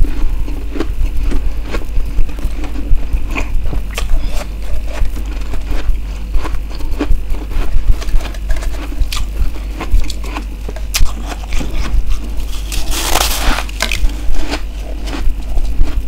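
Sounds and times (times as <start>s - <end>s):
frost crunching being chewed: 0.0s - 16.0s
steady low hum: 0.0s - 16.0s.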